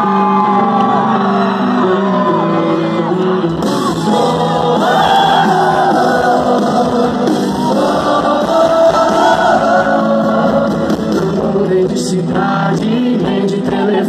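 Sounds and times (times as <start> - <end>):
crowd singing and shouting: 0.0 - 14.0
live band playing: 0.0 - 14.0.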